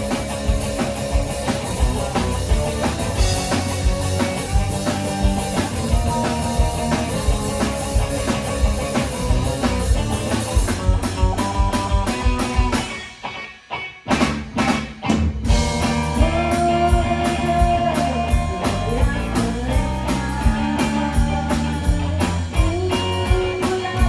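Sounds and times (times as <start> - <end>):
drum kit beat: 0.0 - 24.0
electric guitar: 0.0 - 24.0.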